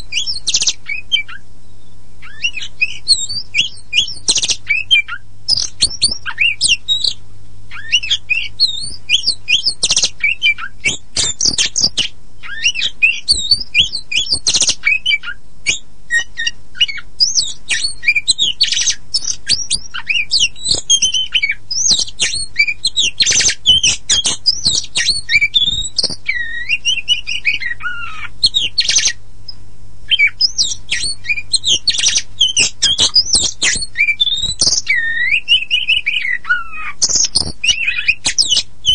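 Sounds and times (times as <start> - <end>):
bird singing varied song: 0.0 - 38.9
faint low hum: 0.0 - 38.9.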